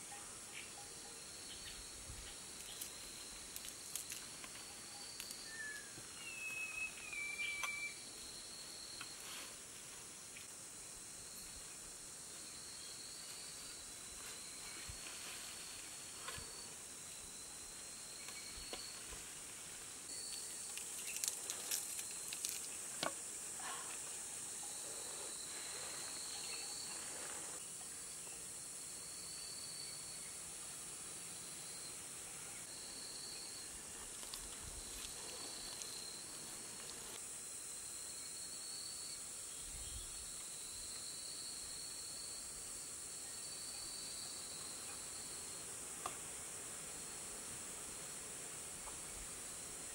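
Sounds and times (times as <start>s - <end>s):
shrill insect trill: 0.0s - 9.5s, 10.1s - 45.8s
insects chirring: 0.0s - 49.9s.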